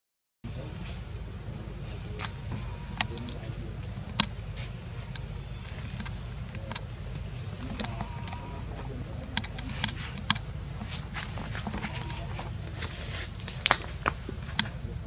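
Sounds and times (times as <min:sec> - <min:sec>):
steady low rumble: 0:00.5 - 0:15.0
dry leaves and twigs crackling: 0:00.6 - 0:15.0.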